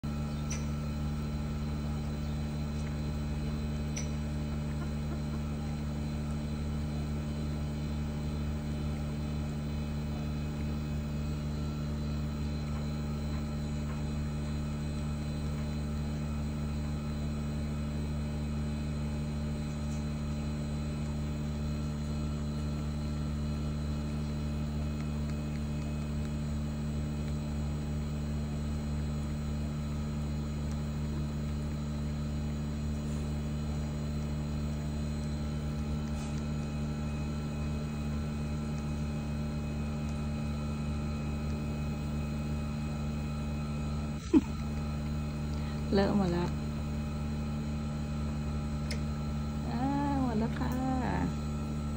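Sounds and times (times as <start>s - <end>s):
motor humming: 0.0s - 51.9s.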